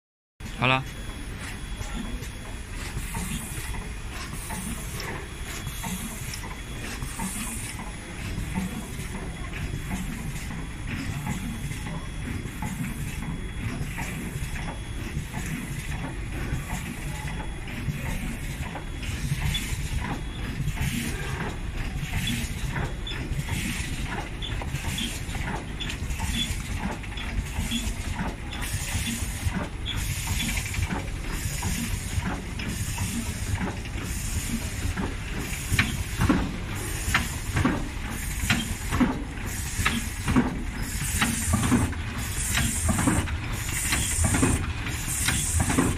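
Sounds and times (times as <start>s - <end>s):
machine clicks: 2.0s - 45.9s.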